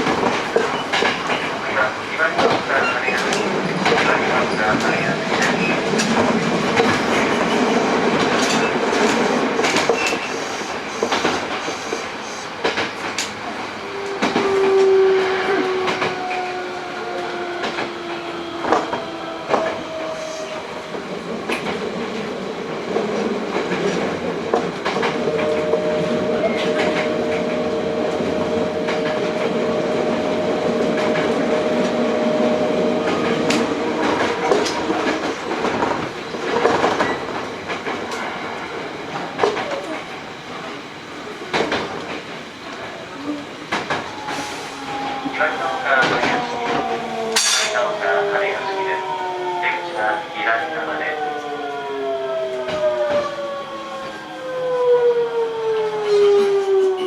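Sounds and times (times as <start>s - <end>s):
train running rumble: 0.0s - 53.4s.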